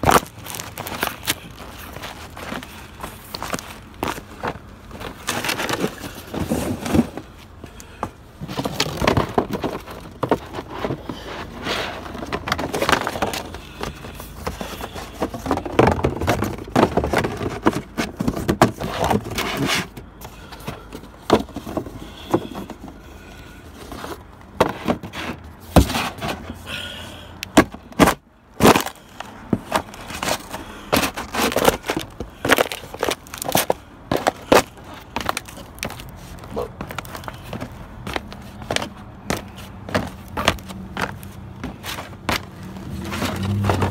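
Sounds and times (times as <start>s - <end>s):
cardboard boxes crushed underfoot: 0.0s - 23.0s, 23.8s - 26.6s, 27.5s - 43.9s.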